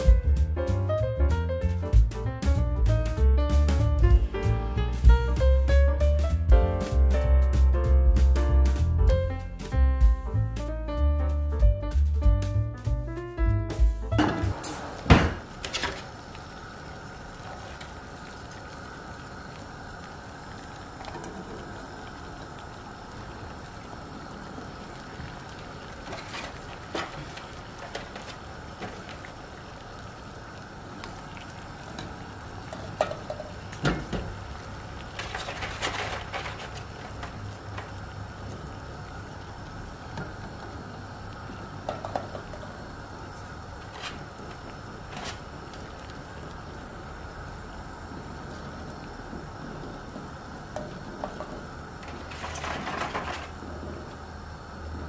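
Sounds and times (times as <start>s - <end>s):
water boiling in a pot: 0.0s - 6.4s, 13.8s - 55.0s.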